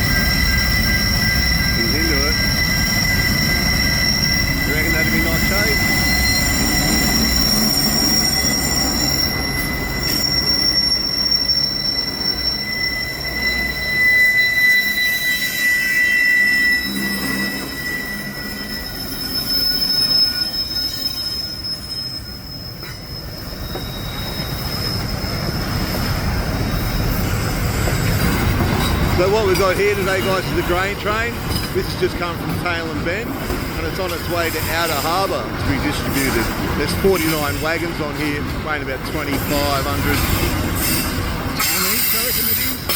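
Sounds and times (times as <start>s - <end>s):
low rumble of train wagons: 0.0s - 42.9s
train wheels squealing on rails: 0.0s - 42.9s.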